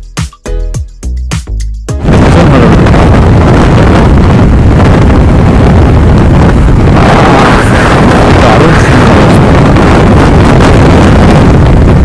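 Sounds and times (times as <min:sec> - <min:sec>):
wind rush on microphone: 0:01.9 - 0:12.0.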